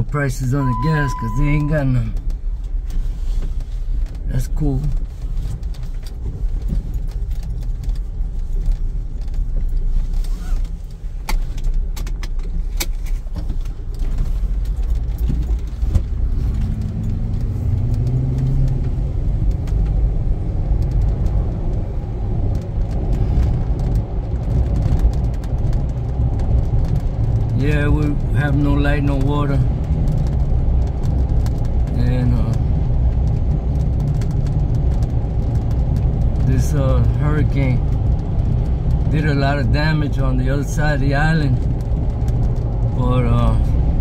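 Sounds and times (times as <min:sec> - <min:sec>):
car engine rumble: 0:00.0 - 0:44.0
road noise inside cabin: 0:00.0 - 0:44.0
sharp clicks and rattles: 0:00.0 - 0:44.0.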